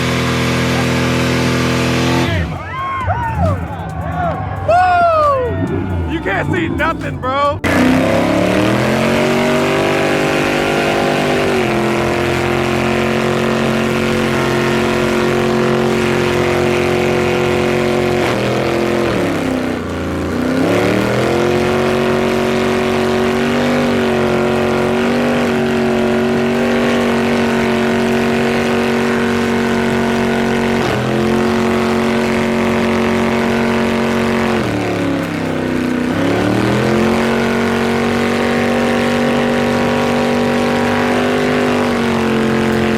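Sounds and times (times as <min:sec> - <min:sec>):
car engine revving high: 0:00.0 - 0:42.9.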